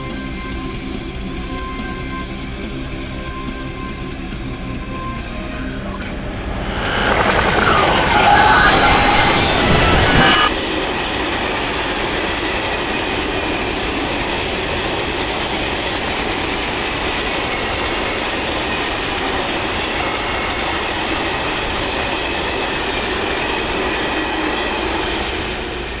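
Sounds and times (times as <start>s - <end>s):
high whining tone: 0.0s - 26.0s.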